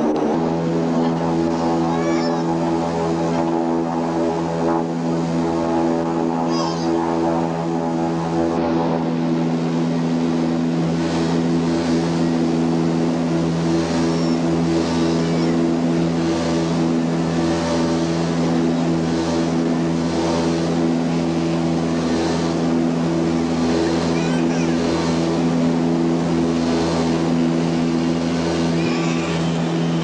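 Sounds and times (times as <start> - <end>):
turboprop engines droning: 0.0 - 30.0.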